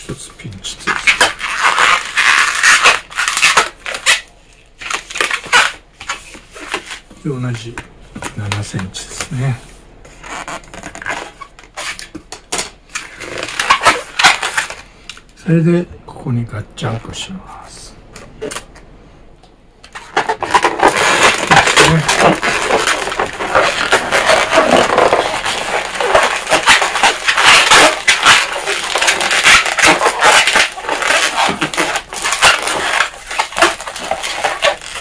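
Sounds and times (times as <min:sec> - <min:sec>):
balloons squeaking and rubbing: 0:00.0 - 0:15.7, 0:19.9 - 0:35.0.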